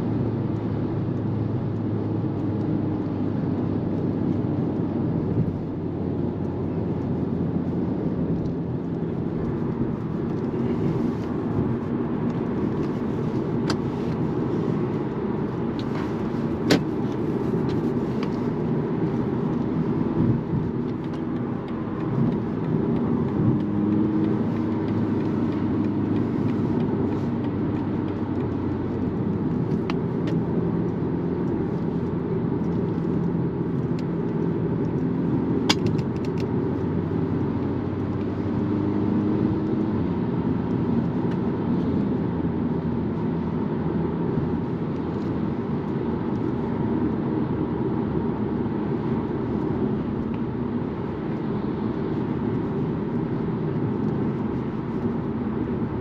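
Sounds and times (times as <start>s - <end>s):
diesel engine hum: 0.0s - 56.0s
road and wind noise in car: 0.0s - 56.0s.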